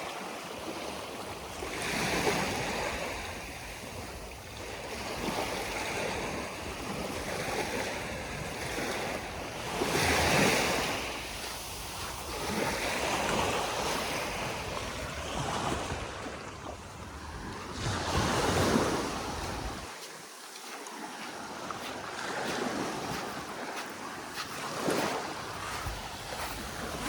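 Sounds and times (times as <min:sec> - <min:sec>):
sea waves washing onto beach: 0:00.0 - 0:27.0.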